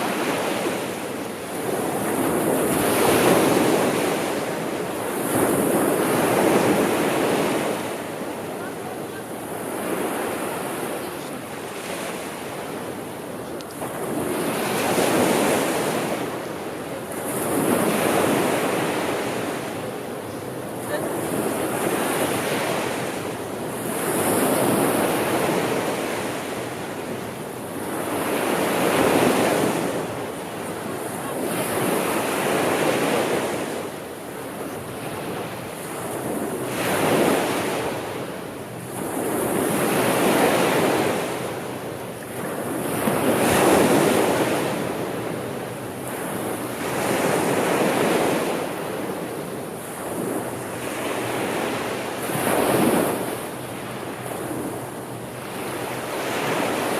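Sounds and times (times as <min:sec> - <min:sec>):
sea waves rolling in and washing back: 0:00.0 - 0:56.9.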